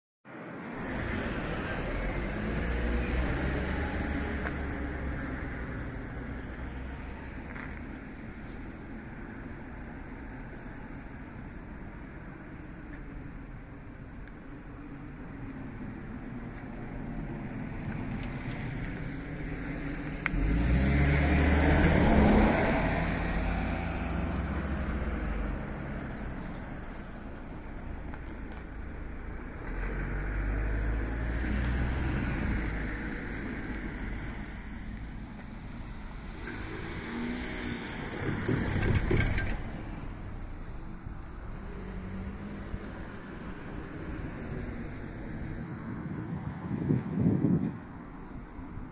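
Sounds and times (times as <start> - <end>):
vehicles driving past: 0.3 - 48.9.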